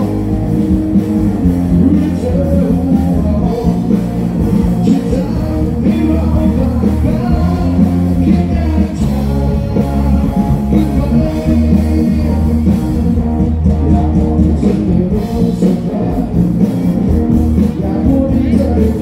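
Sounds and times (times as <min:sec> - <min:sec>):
guitar: 0:00.0 - 0:19.0
heavy bass line: 0:00.0 - 0:19.0
loud rock music: 0:00.0 - 0:19.0
person singing: 0:01.6 - 0:13.2, 0:13.8 - 0:19.0.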